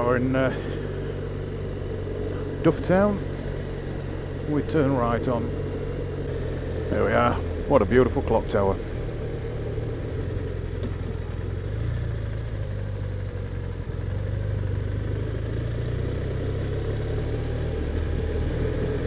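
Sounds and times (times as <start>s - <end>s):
motorcycle engine low hum: 0.0s - 19.0s.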